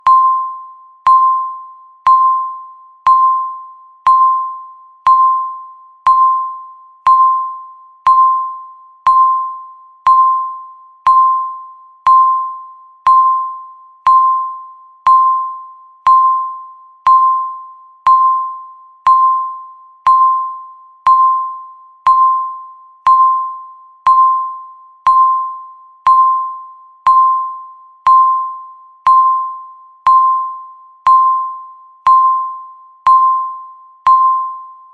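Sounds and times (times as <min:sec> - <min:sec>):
timer beeps: 0:00.0 - 0:34.9.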